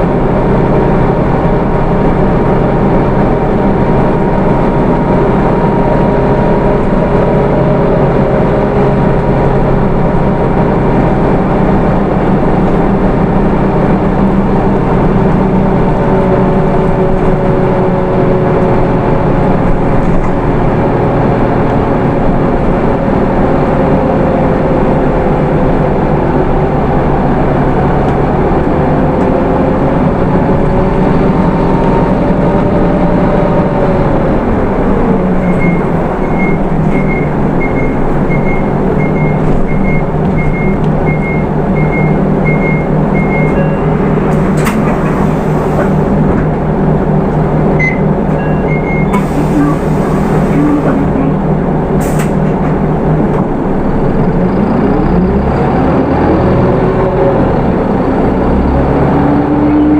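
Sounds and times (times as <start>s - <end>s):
diesel bus engine rumbling: 0.0s - 59.9s.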